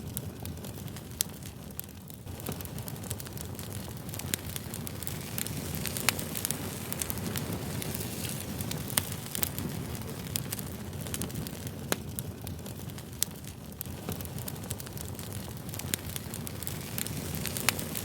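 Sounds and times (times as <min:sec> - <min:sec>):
fire crackles and pops: 0:00.0 - 0:18.0
fire flames rumbling: 0:00.0 - 0:18.0.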